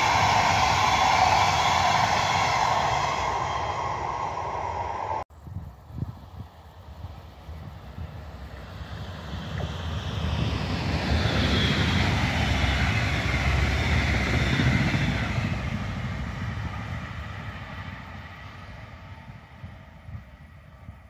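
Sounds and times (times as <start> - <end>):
train passing at speed: 0.0 - 5.3, 6.2 - 21.0.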